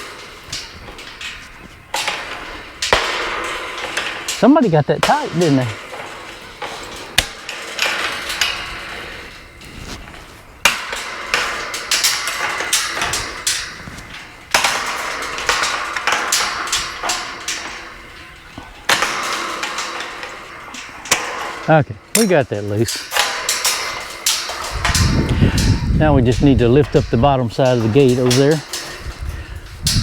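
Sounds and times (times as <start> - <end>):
sharp metal clanks: 0.0 - 30.0.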